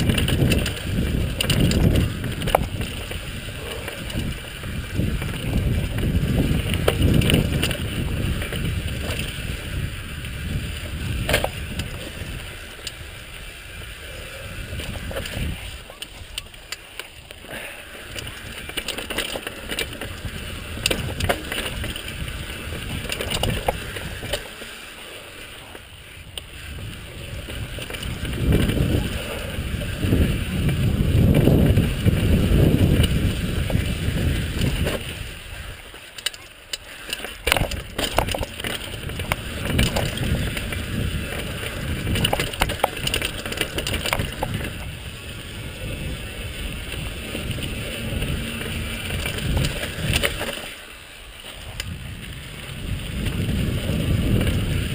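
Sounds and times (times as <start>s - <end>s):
wind rumble on microphone: 0.0s - 16.6s, 17.2s - 24.7s, 25.5s - 36.0s, 37.0s - 54.9s
bike rattling and knocking: 0.0s - 54.9s
bike tyres crunching over dirt: 0.0s - 54.9s.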